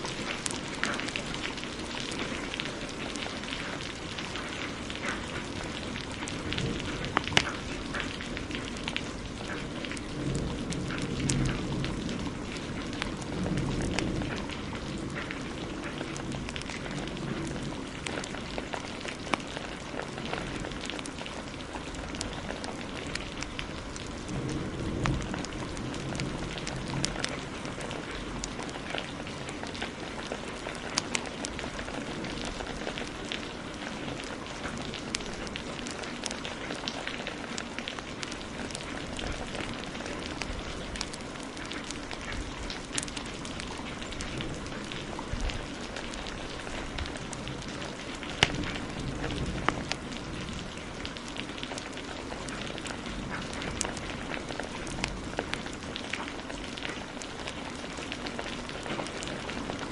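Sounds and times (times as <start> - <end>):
heavy rain hiss: 0.0 - 59.9
wood fire crackling and popping: 0.0 - 59.9.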